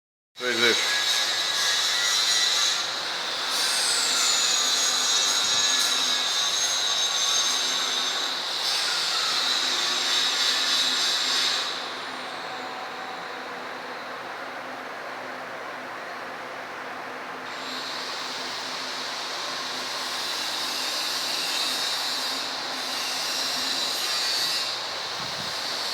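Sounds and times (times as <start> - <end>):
milling machine spindle whine: 0.4 - 15.3, 17.4 - 25.9.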